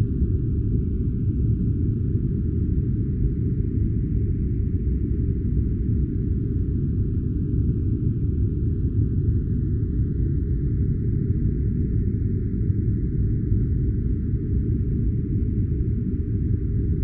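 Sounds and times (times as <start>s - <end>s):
deep low white noise: 0.0s - 17.0s.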